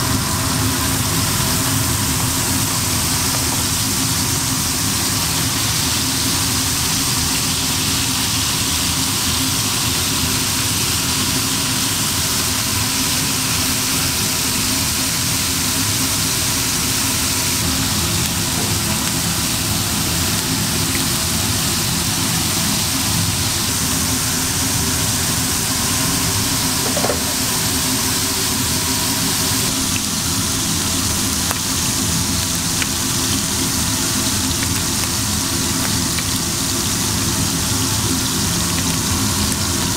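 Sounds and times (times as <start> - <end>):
burger patties sizzling on griddle: 0.0 - 39.9
low machine hum: 0.0 - 39.9.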